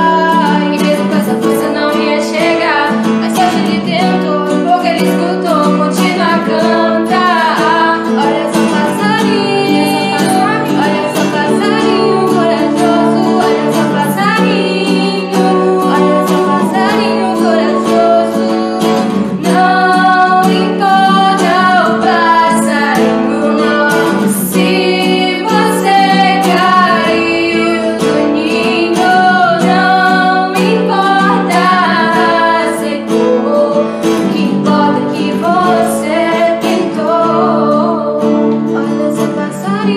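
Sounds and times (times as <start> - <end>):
acoustic guitar strumming: 0.0 - 39.9
women singing together: 0.0 - 39.9.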